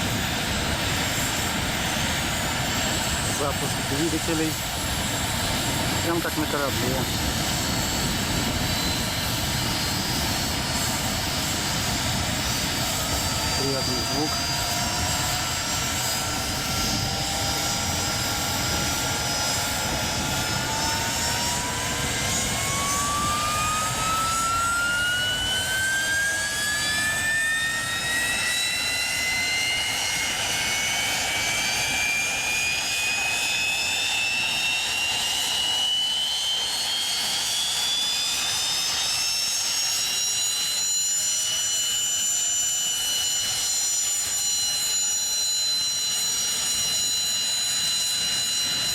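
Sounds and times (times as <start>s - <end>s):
helicopter engine roar: 0.0s - 48.9s
turbine whine rising in pitch: 0.0s - 48.9s.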